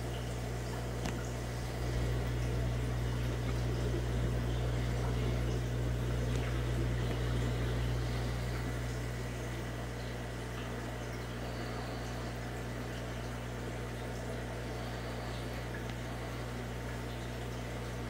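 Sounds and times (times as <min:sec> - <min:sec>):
aquarium pump humming: 0:00.0 - 0:18.0
water bubbling: 0:00.0 - 0:18.0.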